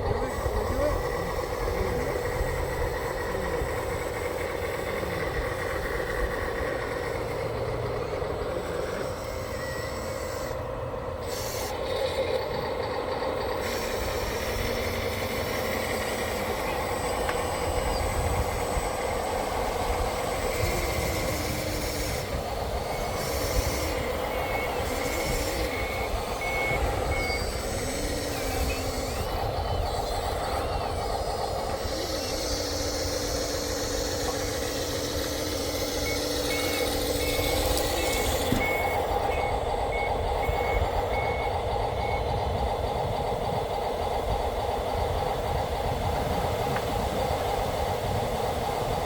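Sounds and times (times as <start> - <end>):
machinery humming: 0.0 - 49.0
reversing alarm beeping: 0.0 - 49.0.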